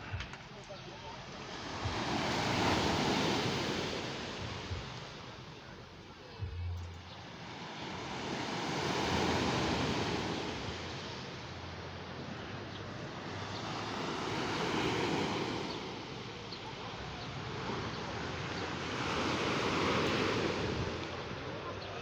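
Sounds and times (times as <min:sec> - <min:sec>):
sea waves washing ashore: 0:00.0 - 0:22.0.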